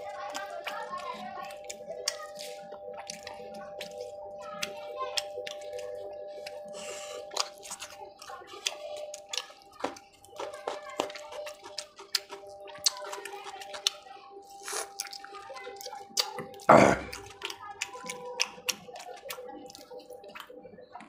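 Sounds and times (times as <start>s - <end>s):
wet chewing with mouth clicks: 0.0s - 21.0s.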